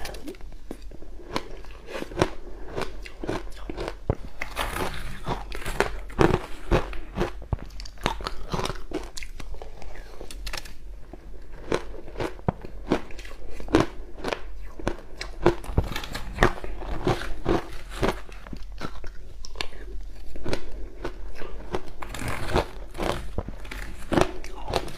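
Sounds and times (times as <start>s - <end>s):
crushed ice being chewed: 0.0s - 24.9s.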